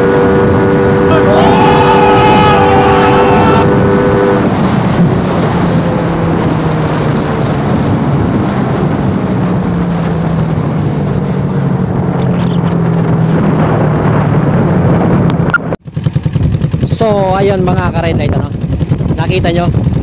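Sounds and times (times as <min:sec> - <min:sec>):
motorcycle engine at high revs: 0:00.0 - 0:10.0, 0:10.8 - 0:20.0
wind and road rush: 0:00.0 - 0:20.0.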